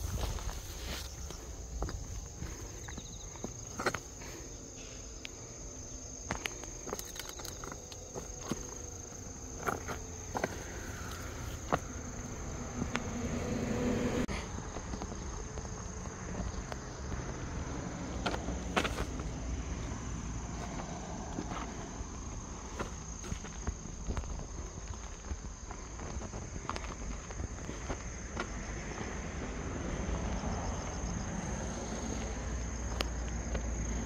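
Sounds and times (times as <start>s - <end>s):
footsteps on dry dirt: 0.0s - 13.1s, 14.4s - 30.0s
insects chirring: 0.0s - 34.0s.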